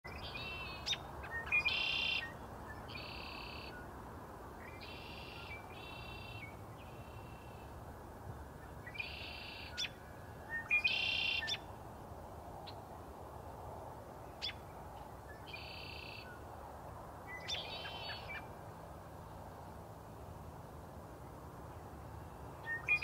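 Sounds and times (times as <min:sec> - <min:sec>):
steady background hiss: 0:00.1 - 0:23.0.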